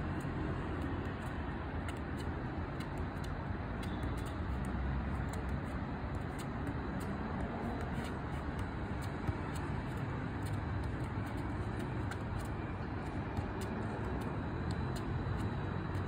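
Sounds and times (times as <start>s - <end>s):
low rumble of city traffic: 0.0s - 16.0s.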